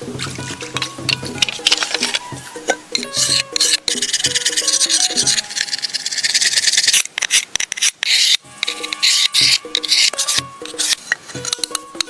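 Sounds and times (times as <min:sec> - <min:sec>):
background music: 0:00.0 - 0:12.0
hand tool rasping wood: 0:00.0 - 0:12.0.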